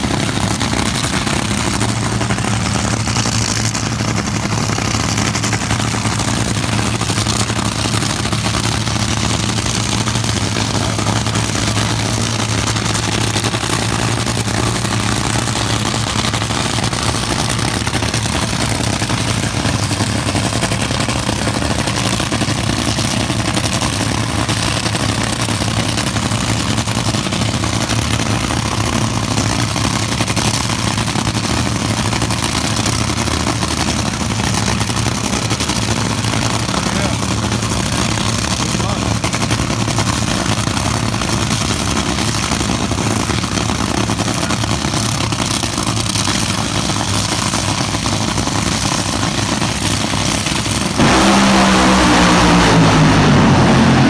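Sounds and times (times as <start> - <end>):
dragster engines idling: 0.0 - 54.0.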